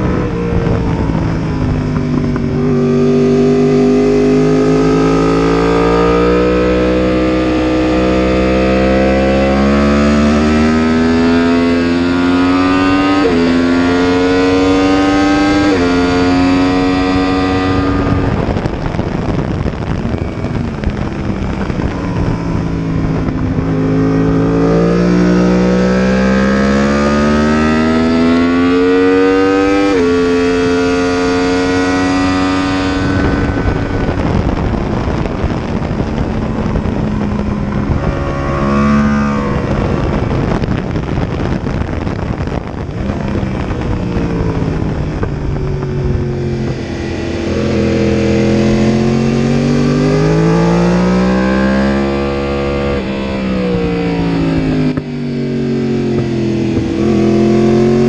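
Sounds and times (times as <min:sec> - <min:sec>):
heavy wind rush: 0:00.0 - 0:58.0
motorcycle engine revving: 0:00.0 - 0:58.0.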